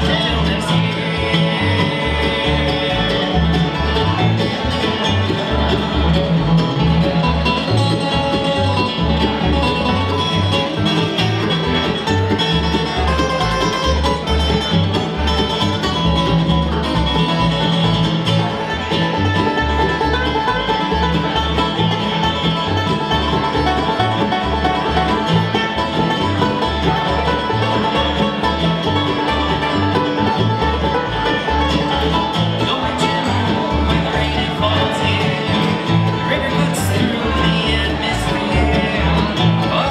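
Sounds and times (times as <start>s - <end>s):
acoustic guitar: 0.0s - 39.9s
banjo lead: 0.0s - 39.9s
mandolin: 0.0s - 39.9s
upright bass plucking: 0.0s - 39.9s.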